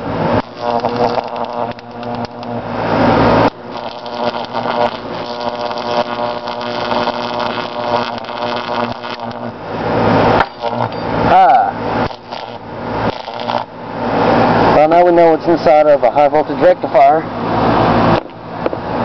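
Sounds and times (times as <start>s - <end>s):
high-voltage arc buzzing harshly: 0.0s - 16.6s.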